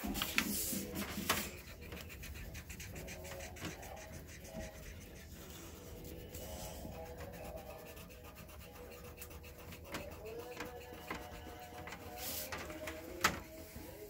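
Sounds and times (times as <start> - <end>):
marker scratching on paper: 0.0 - 13.9.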